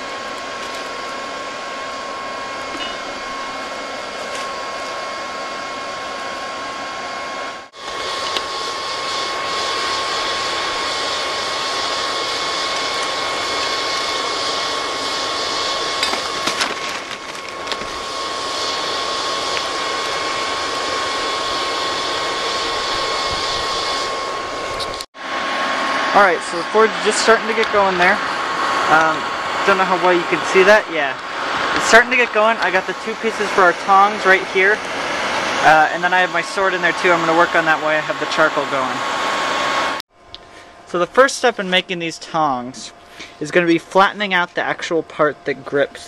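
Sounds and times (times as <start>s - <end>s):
hair dryer blowing with high whine: 0.0s - 40.0s, 40.6s - 46.0s.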